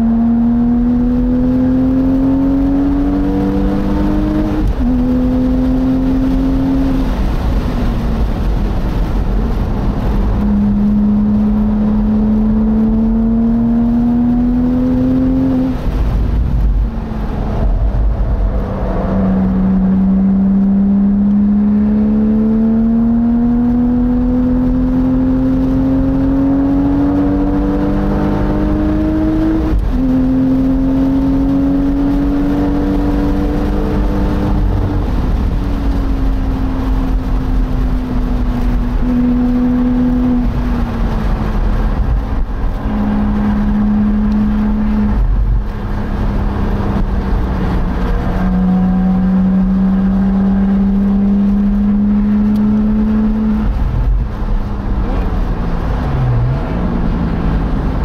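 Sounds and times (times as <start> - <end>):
car engine accelerating hard: 0.0 - 58.0
road rumble: 0.0 - 58.0
wind: 0.0 - 58.0.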